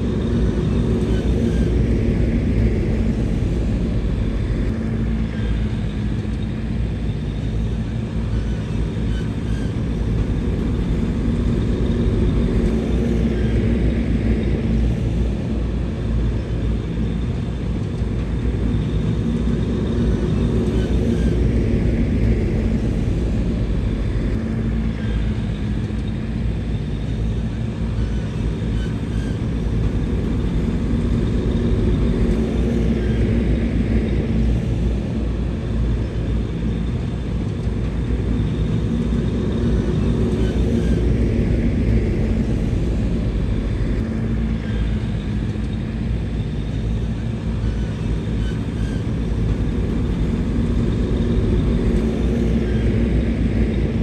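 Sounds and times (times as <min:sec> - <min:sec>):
bulldozer diesel engine rumbling: 0:00.0 - 0:54.0.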